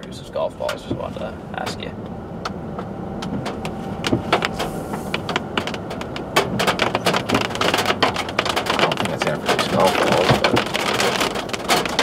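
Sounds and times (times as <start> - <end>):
car road noise: 0.0 - 12.0
raindrops ticking on car: 0.0 - 12.0.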